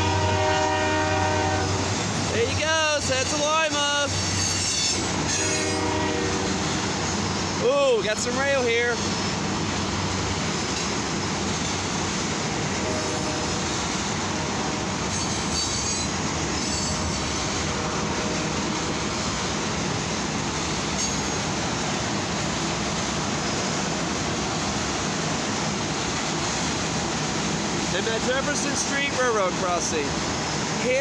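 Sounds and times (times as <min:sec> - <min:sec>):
train wheels running on track: 0:00.0 - 0:31.0.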